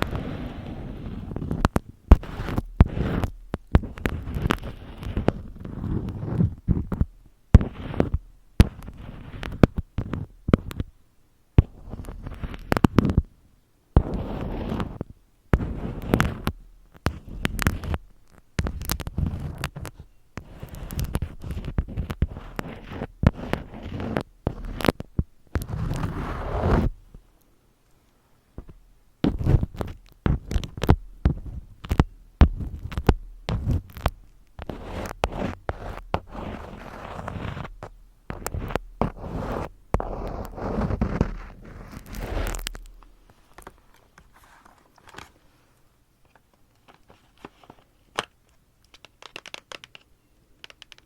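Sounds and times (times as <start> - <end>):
crackling handling sounds: 0.0 - 11.0, 11.6 - 51.0.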